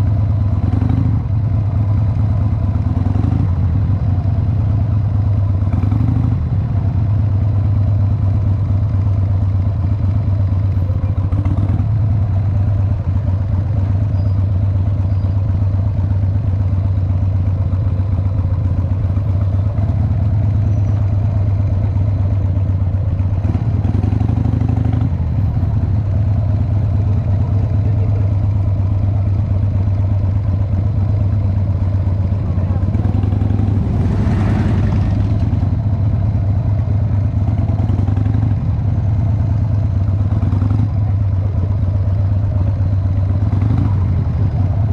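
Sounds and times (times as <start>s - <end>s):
motorcycle engine running at low speed: 0.0s - 44.9s.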